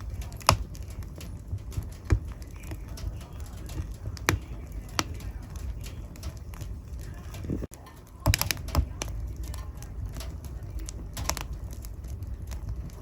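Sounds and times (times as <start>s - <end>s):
fire sharp pops: 0.0s - 13.0s
low steady rumble: 0.0s - 13.0s
wood fire crackling: 0.0s - 13.0s.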